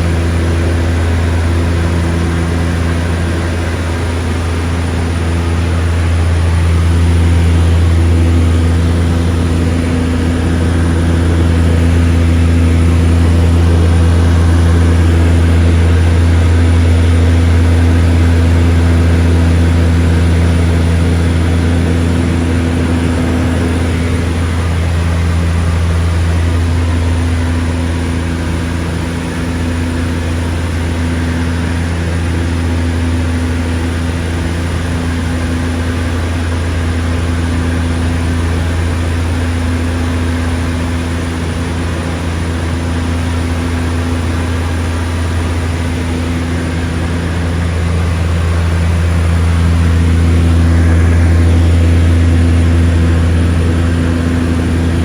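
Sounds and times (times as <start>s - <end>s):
seaplane engine and propeller droning: 0.0s - 55.0s.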